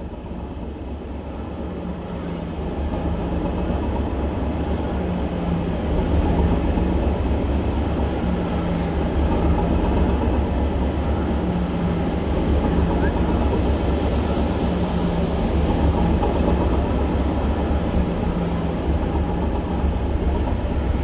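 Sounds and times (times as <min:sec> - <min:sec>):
diesel train engine idling: 0:00.0 - 0:21.0.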